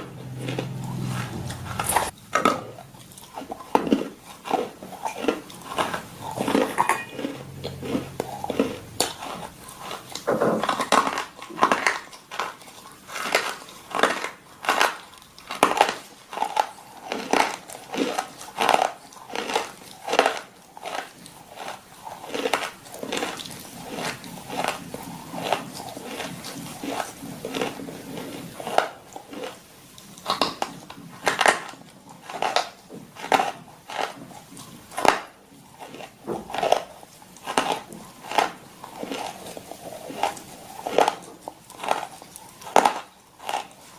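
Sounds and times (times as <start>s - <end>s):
dog crunching food: 0.0s - 43.9s.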